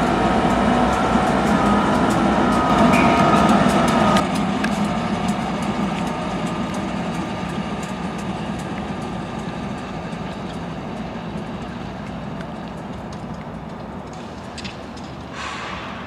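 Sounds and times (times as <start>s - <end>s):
diesel locomotive engine rumble: 0.0s - 16.0s
wheels clicking on rails: 0.0s - 16.0s.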